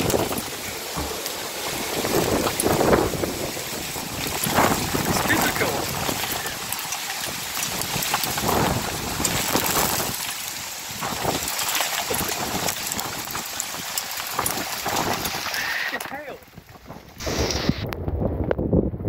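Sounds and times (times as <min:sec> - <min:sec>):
heavy rain pouring: 0:00.0 - 0:18.4
gusty wind: 0:00.0 - 0:19.0.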